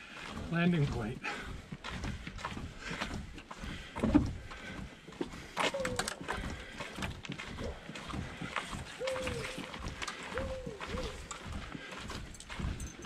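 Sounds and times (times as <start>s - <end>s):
footsteps on dirt trail: 0.0s - 13.0s.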